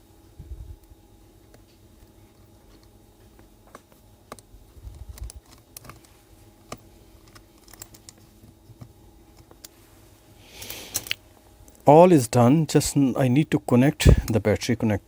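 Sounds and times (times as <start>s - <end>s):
small tools clicking and tapping: 1.5s - 9.8s, 10.6s - 14.6s.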